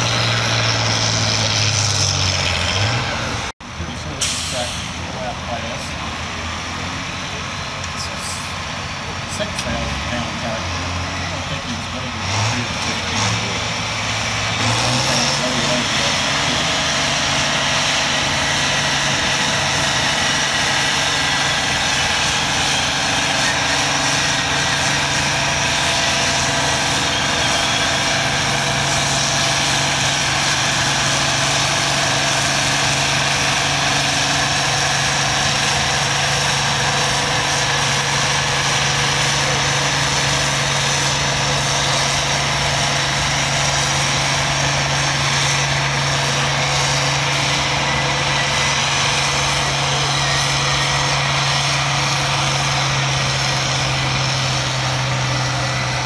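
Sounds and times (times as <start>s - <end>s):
tractor engine running hard: 0.0s - 56.0s.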